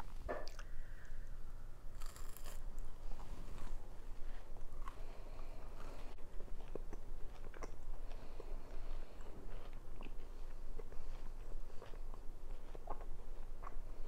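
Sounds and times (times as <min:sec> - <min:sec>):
faint low hum: 0:00.0 - 0:14.0
person chewing moist food: 0:00.4 - 0:01.2, 0:02.0 - 0:14.0.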